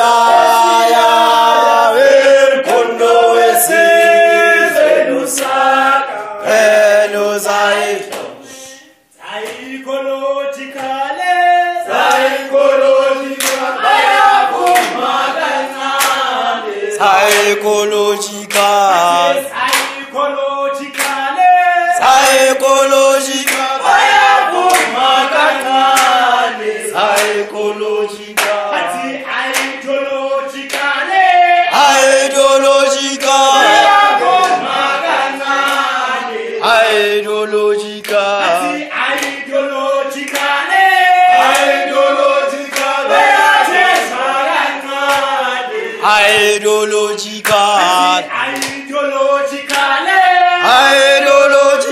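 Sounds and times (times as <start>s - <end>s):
group singing in parts: 0.0s - 51.9s
sharp rhythmic beats: 0.0s - 51.9s.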